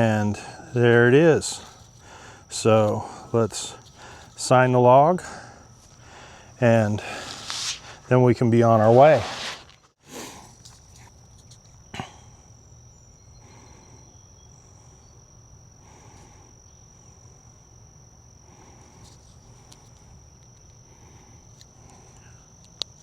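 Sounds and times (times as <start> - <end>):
high-pitched insect trill: 0.0 - 23.0.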